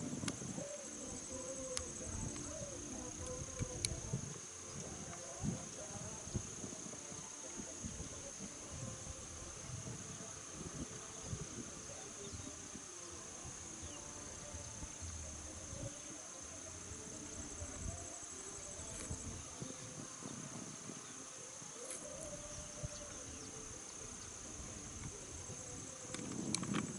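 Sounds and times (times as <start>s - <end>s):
insects trilling: 0.0s - 26.9s
low outdoor background: 0.0s - 26.9s.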